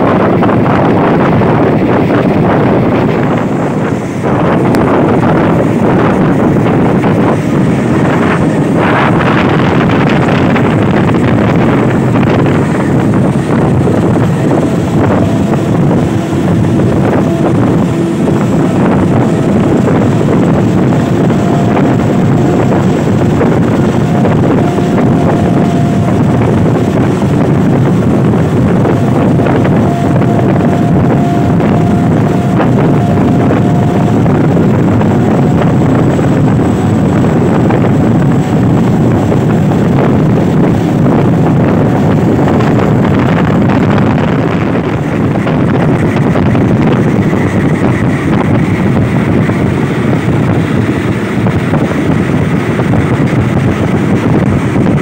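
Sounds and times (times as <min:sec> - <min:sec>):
train carriage rumble and rattle: 0:00.0 - 0:55.0
wind rushing on microphone: 0:00.0 - 0:55.0.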